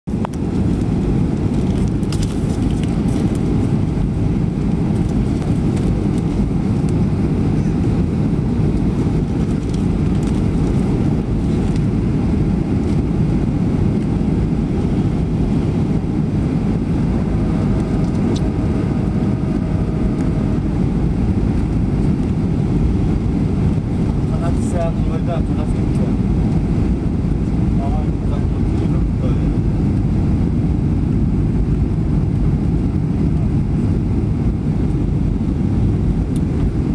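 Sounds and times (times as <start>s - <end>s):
airliner cabin engine rumble: 0.1s - 36.9s.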